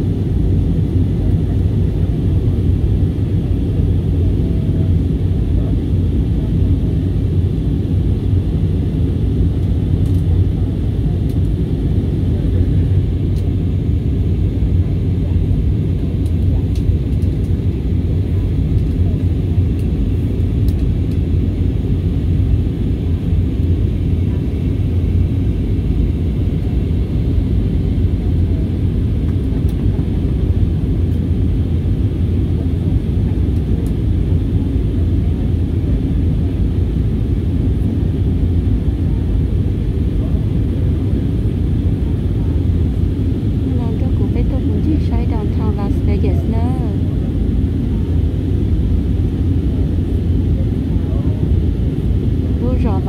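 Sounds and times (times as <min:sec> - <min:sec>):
airliner engines rumbling: 0:00.0 - 0:53.0.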